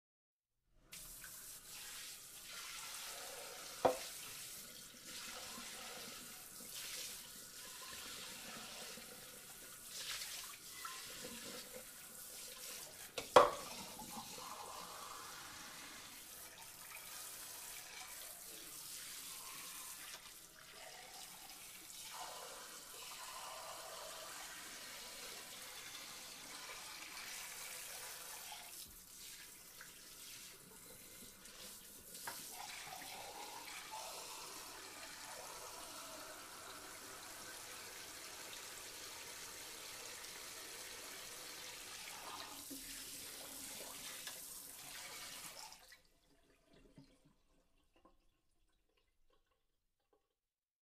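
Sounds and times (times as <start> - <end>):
faucet water spraying onto dishes: 0.9 - 45.8.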